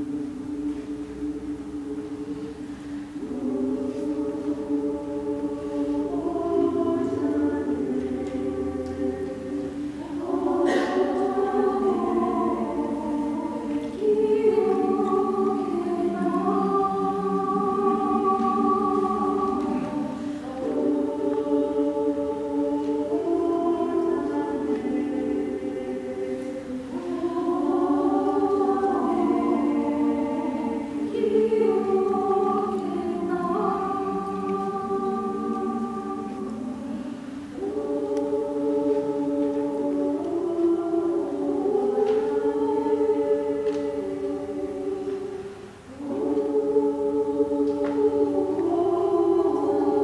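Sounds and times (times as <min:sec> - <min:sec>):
choir singing held chords: 0:00.0 - 0:50.0.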